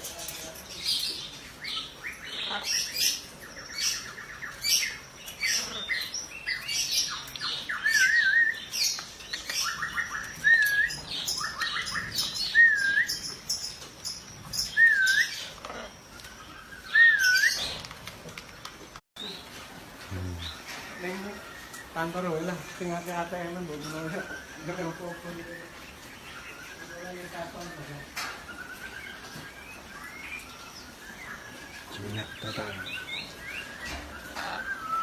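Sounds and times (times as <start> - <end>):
birds chirping and squawking: 0.0 - 35.0.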